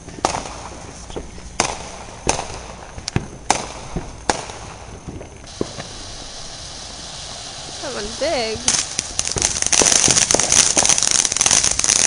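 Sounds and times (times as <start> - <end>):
firework fountain hissing: 0.0 - 12.0
fireworks cracking: 0.0 - 12.0.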